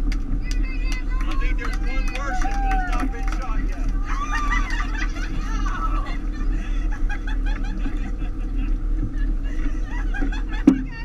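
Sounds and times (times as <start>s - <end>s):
boat engine drone: 0.0s - 11.0s
passengers chattering: 0.0s - 11.0s.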